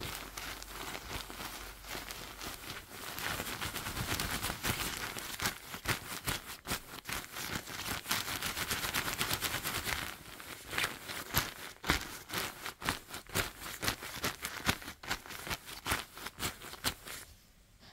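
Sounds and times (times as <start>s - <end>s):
jacket fabric crinkling: 0.0s - 17.3s.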